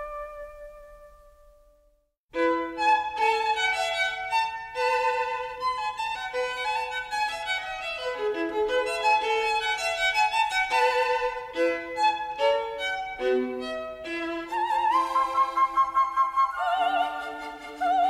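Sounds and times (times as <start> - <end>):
violin melody: 2.3 - 18.0.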